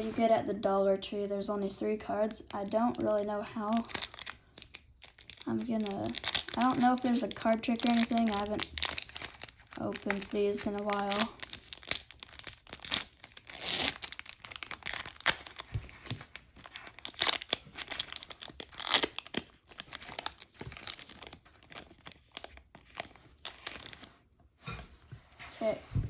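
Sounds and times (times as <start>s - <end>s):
foil wrapper tearing and crinkling: 2.5s - 24.1s.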